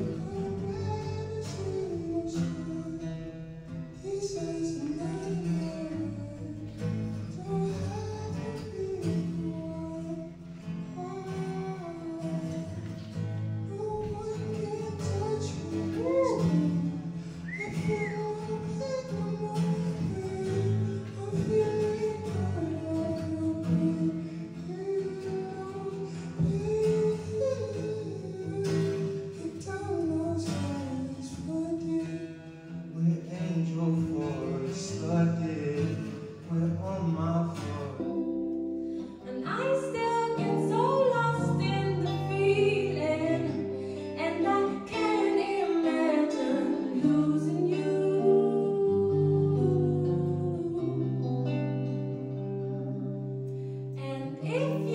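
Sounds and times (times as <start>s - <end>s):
person singing: 0.0s - 3.3s, 4.0s - 32.2s, 32.9s - 54.9s
guitar: 0.0s - 54.9s.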